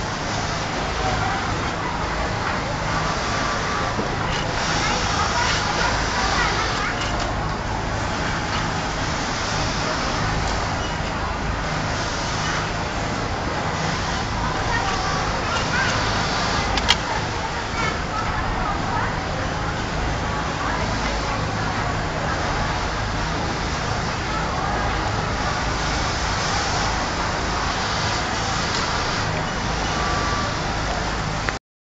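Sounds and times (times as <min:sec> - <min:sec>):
sewing machines running: 0:00.0 - 0:31.5.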